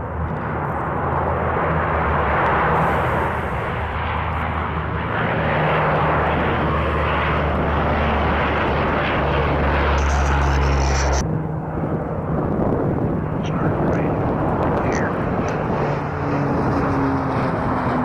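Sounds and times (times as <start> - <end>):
turboprop aircraft engines droning: 0.0 - 18.0.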